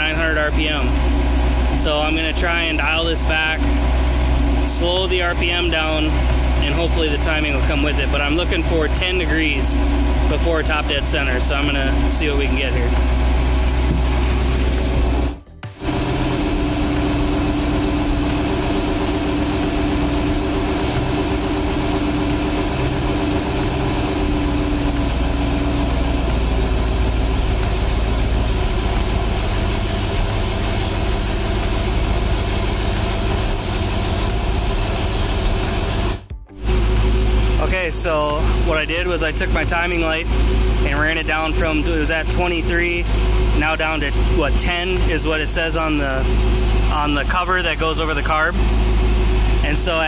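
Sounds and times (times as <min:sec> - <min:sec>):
boat engine idling: 0:00.0 - 0:50.0.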